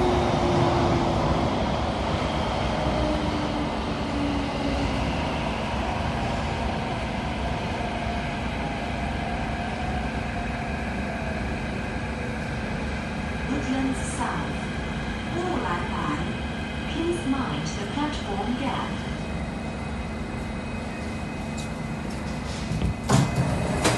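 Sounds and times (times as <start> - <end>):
train running noise: 0.0 - 23.9.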